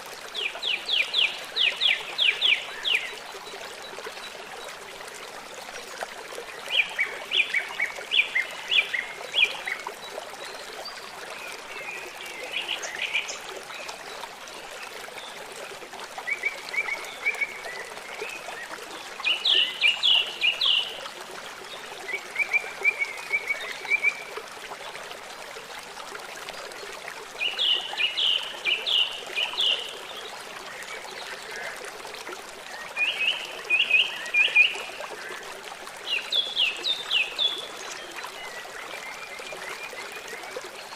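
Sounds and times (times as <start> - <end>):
trickling water: 0.0 - 40.9.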